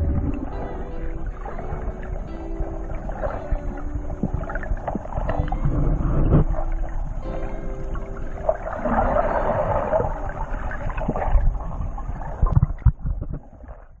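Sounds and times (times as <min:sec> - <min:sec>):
wind noise: 0:00.0 - 0:08.0, 0:08.7 - 0:14.0
boat motor hum: 0:00.0 - 0:13.2
rushing water: 0:00.0 - 0:14.0.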